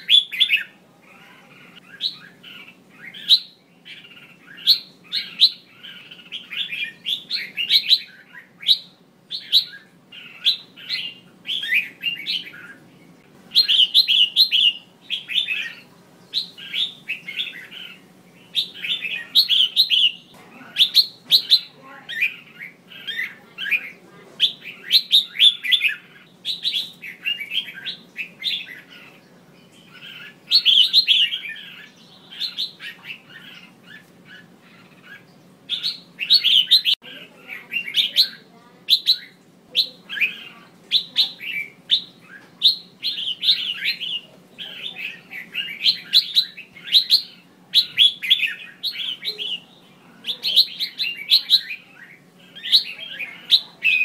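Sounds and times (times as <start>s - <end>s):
bird chattering calls: 0.0s - 54.0s.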